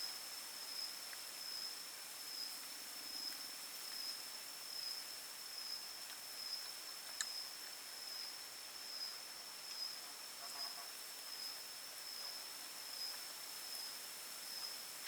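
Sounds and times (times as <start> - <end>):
faint background hiss: 0.0 - 15.0
insects droning: 0.0 - 15.0.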